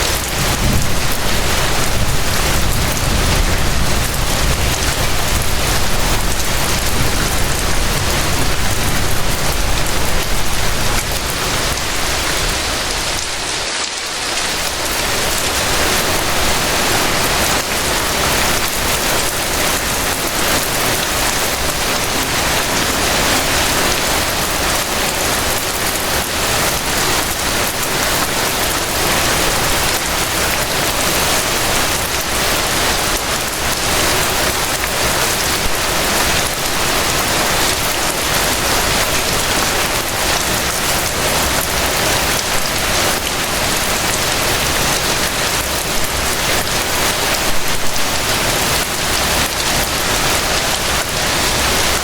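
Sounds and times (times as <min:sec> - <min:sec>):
gentle rain: 0:00.0 - 0:52.0.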